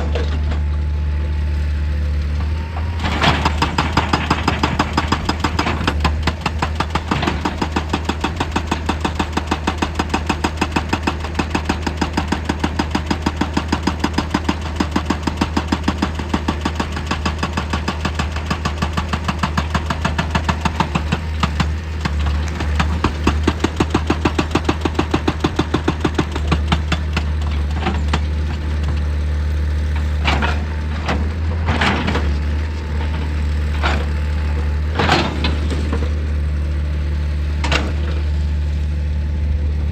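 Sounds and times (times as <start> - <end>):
diesel engine running: 0.0 - 39.9
hydraulic rock breaker hammering: 2.6 - 36.3.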